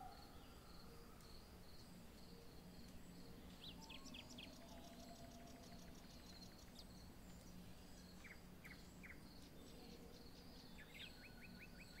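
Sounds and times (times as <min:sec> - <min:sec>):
faint insect chirping: 0:00.0 - 0:12.0.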